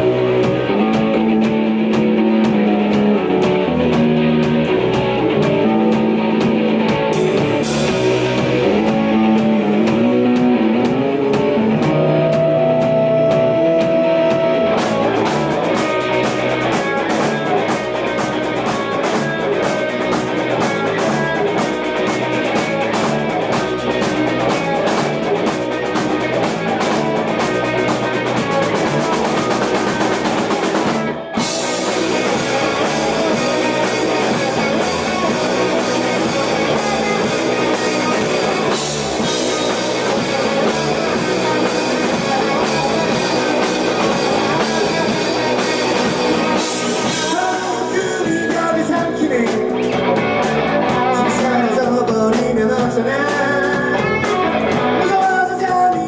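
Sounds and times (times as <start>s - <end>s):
drum kit beat: 0.0s - 56.0s
electric guitar: 0.0s - 56.0s.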